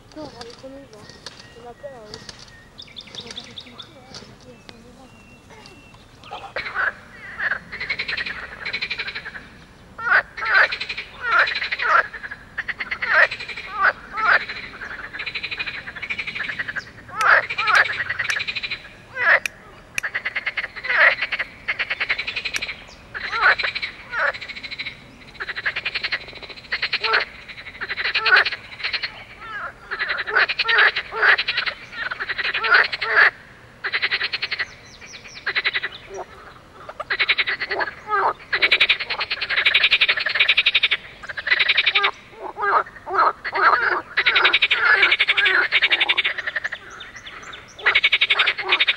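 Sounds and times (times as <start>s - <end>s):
frogs croaking: 0.0s - 48.9s.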